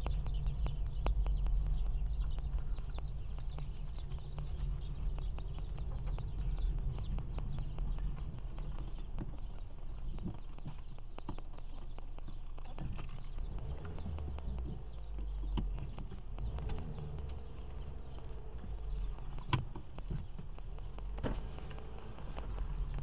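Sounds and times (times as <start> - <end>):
wind and road noise: 0.0 - 11.8, 12.7 - 23.0
rapid faint ticking: 0.0 - 23.0.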